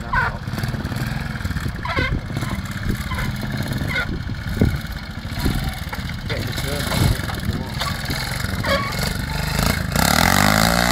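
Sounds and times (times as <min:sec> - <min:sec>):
motorcycle engine with throttle blips: 0:00.0 - 0:10.9.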